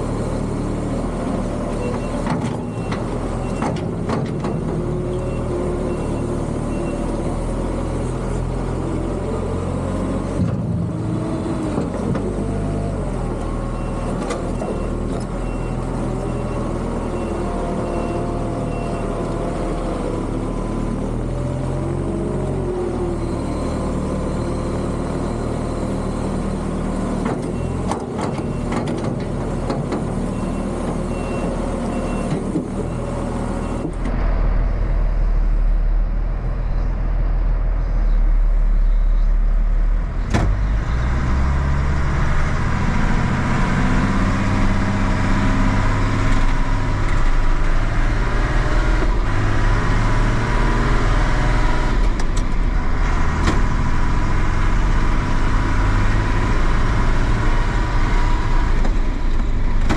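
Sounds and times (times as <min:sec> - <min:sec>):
tractor engine from inside cab: 0:00.0 - 0:59.9.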